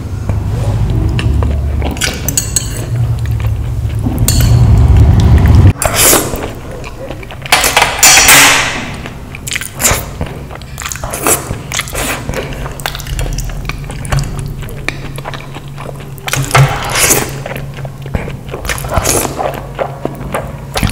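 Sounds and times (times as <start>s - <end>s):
person biting and chewing food: 0.3s - 20.9s.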